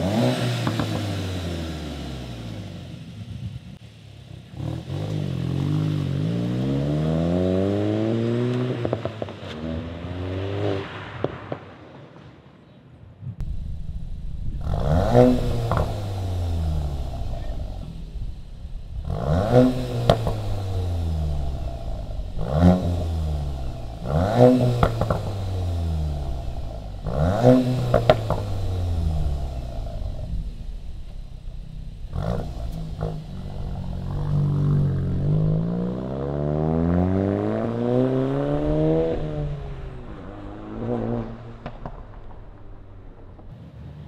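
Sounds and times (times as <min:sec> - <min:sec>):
car engine revving: 0:00.0 - 0:03.4, 0:04.2 - 0:11.3, 0:13.4 - 0:43.5.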